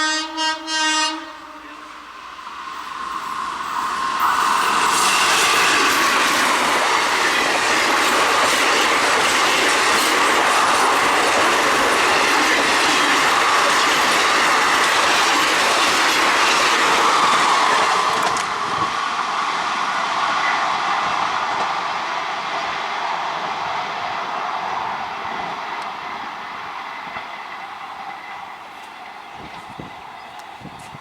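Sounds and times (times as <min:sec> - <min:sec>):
train wheels rushing on rails: 0:01.8 - 0:31.0.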